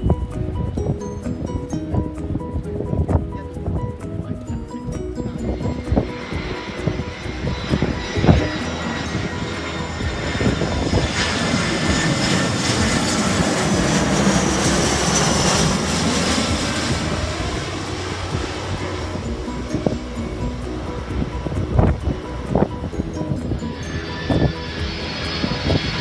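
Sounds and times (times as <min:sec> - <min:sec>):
high jet engine whine: 0:00.0 - 0:26.0
jet airliner passing: 0:00.0 - 0:26.0.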